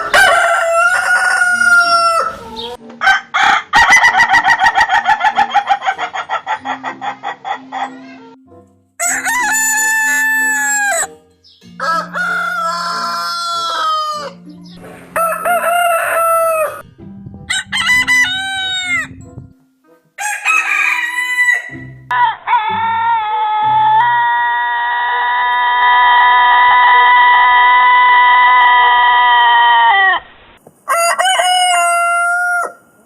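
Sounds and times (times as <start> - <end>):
roosters crowing: 0.0 - 7.7, 9.0 - 11.1, 11.7 - 14.4, 15.1 - 16.9, 17.5 - 19.2, 20.2 - 33.0.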